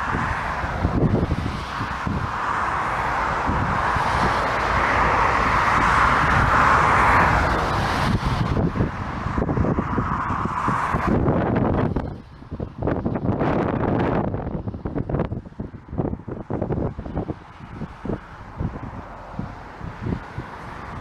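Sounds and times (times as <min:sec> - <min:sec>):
aircraft engine rushing: 0:00.0 - 0:21.0
wind buffeting microphone: 0:00.0 - 0:21.0.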